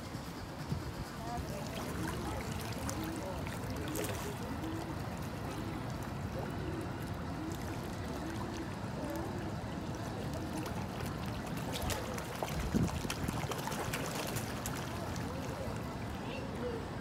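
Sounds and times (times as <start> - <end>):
faint voices: 0.0 - 17.0
water splashing from a fountain: 1.2 - 17.0.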